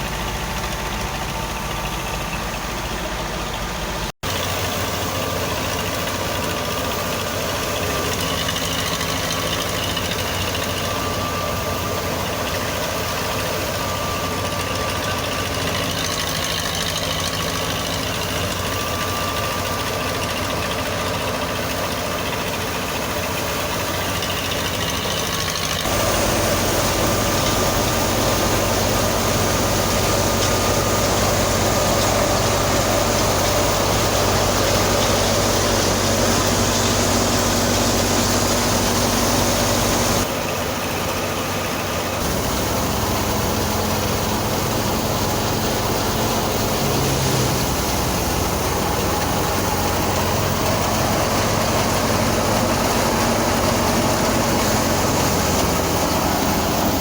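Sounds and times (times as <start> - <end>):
harvesting machine engine running: 0.0 - 57.0.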